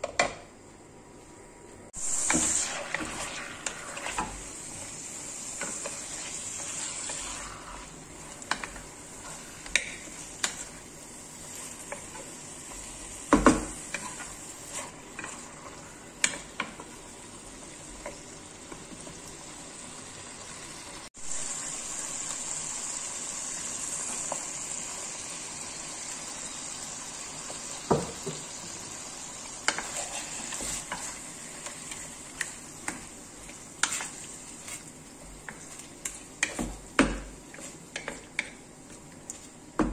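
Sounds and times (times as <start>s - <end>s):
food sizzling in oil: 1.9s - 39.9s.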